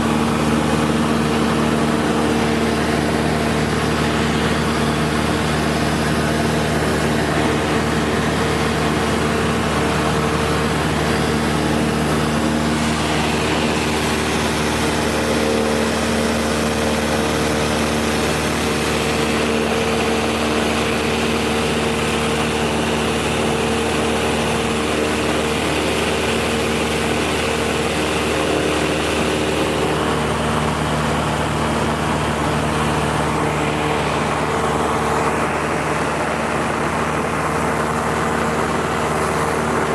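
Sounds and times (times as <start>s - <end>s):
propeller plane engine droning: 0.0s - 39.9s
rush of air noise: 0.0s - 39.9s.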